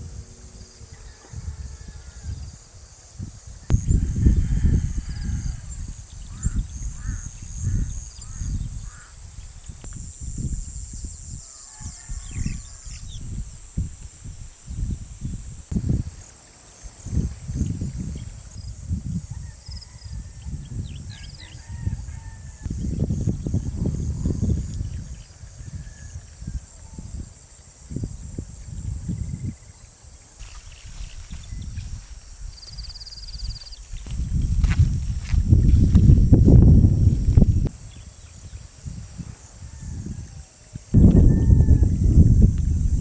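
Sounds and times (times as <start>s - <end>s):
wind gusting on microphone: 0.0s - 43.0s.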